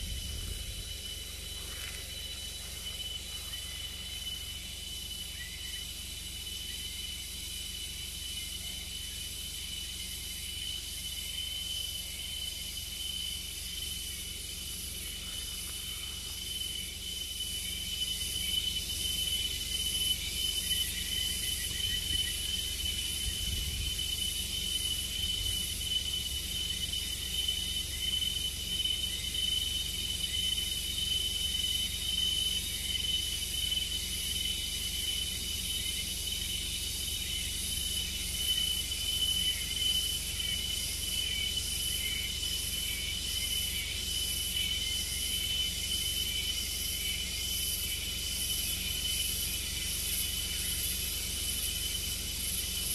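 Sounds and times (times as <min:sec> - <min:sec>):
insects trilling: 0:00.0 - 0:52.9.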